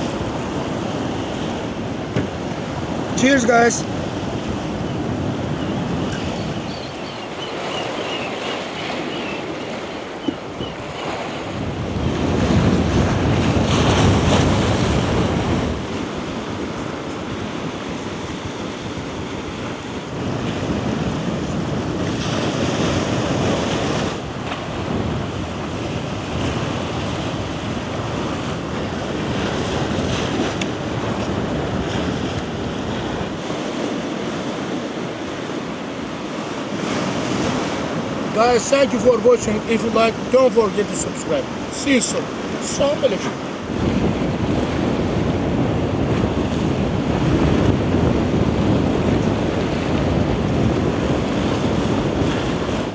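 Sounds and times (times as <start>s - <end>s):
sea waves washing onto shore: 0.0s - 52.9s
wind buffeting microphone: 0.0s - 52.9s.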